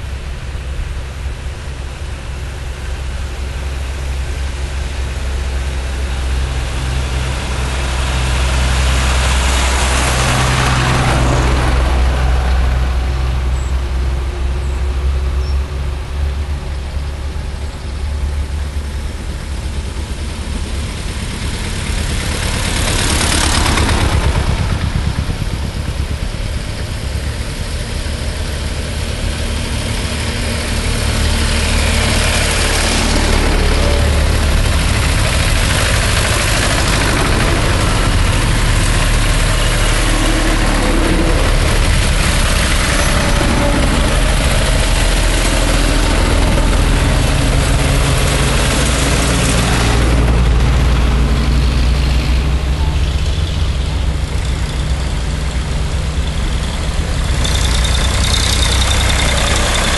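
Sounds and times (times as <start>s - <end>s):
tractors driving past: 0.0s - 59.9s.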